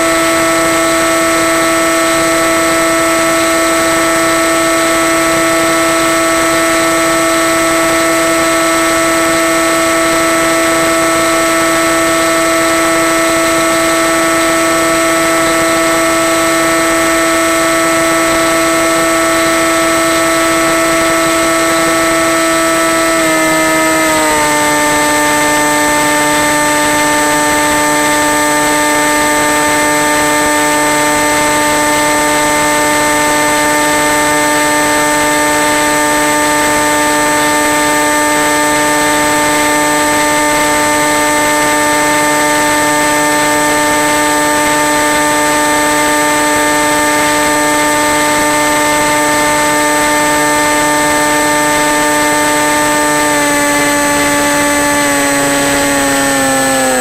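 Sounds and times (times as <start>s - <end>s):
electric motor and propeller whine: 0.0s - 57.0s.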